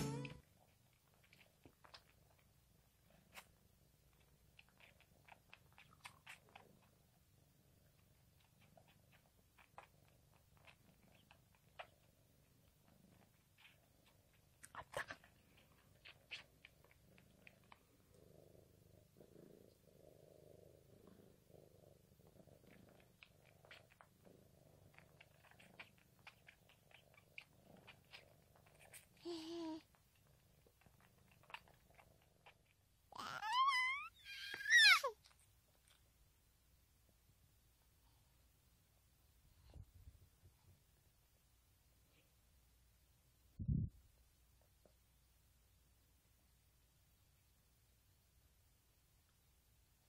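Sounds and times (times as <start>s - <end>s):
cat purring: 0.0s - 34.4s, 35.1s - 50.0s.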